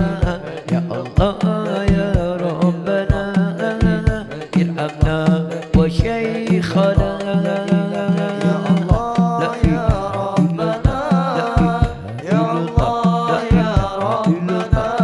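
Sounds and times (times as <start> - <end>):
devotional singing: 0.0 - 15.0
drum strokes: 0.0 - 15.0.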